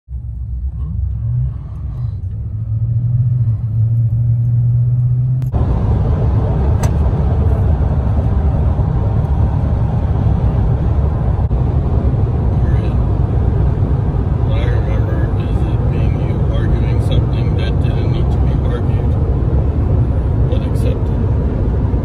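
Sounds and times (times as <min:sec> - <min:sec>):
car interior hum: 0:00.1 - 0:22.0
rushing tyre and wind noise: 0:00.2 - 0:22.0.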